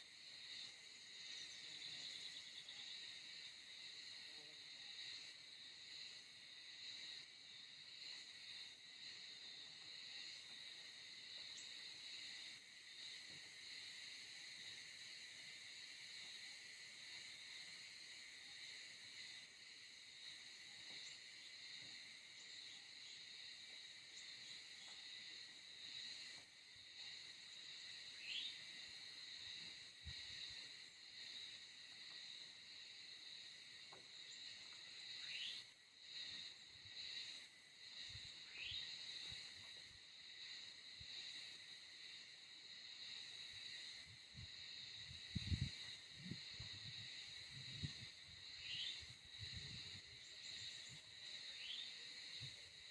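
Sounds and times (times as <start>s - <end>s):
insect chorus trilling: 0.0s - 52.9s.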